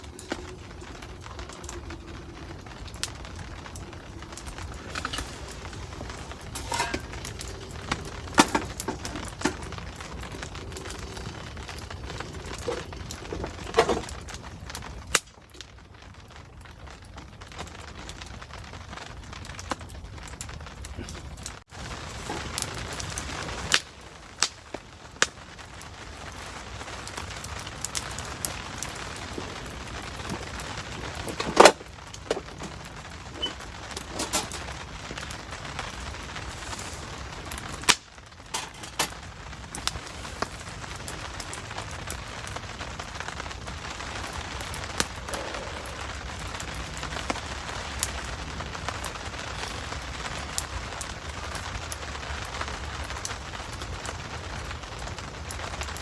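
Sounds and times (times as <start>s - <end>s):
campfire crackling and popping: 0.0s - 56.0s
rain hissing: 0.0s - 56.0s.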